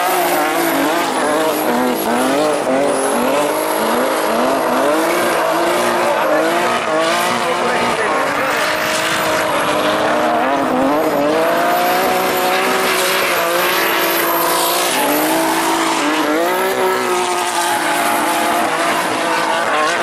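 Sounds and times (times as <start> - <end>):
car engines at high revs: 0.0 - 20.0
tyres squealing on asphalt: 0.0 - 20.0.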